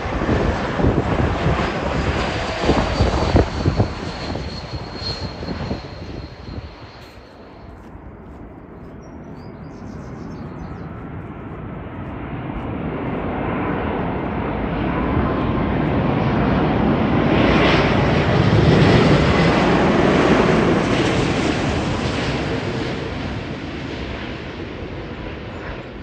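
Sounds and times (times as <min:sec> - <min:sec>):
faint jet whine: 0:00.0 - 0:26.0
jet engine rumble: 0:00.0 - 0:26.0.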